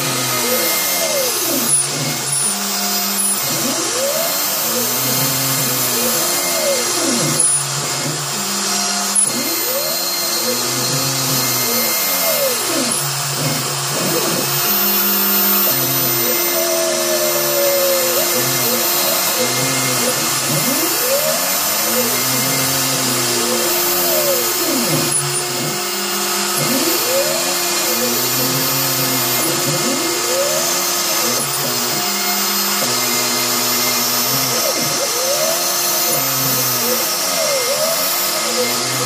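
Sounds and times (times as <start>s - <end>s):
stepper motors whining: 0.0s - 39.0s.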